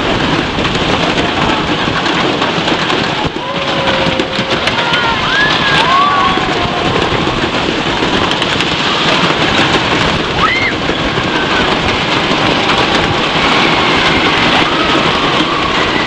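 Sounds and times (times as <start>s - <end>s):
falling water rushing and splashing: 0.0s - 16.0s.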